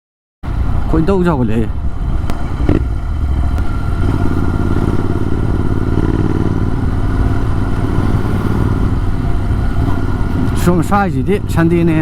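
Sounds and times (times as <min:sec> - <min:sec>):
motorcycle engine rumbling: 0:00.5 - 0:12.0.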